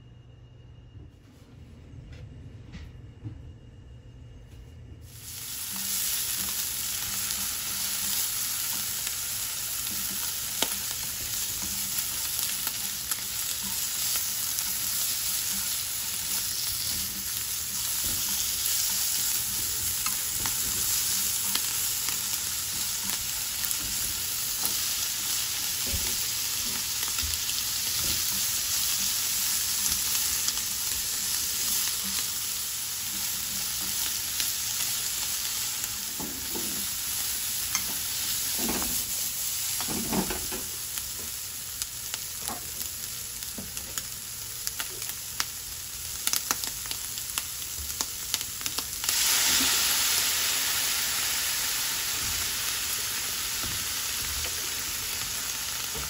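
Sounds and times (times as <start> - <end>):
food sizzling in oil: 5.0 - 56.0.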